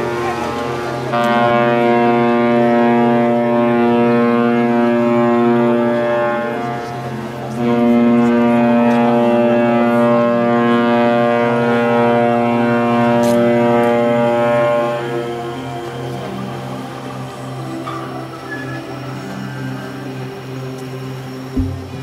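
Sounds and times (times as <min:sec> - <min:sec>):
deep ship horn blasts: 0:00.1 - 0:20.2.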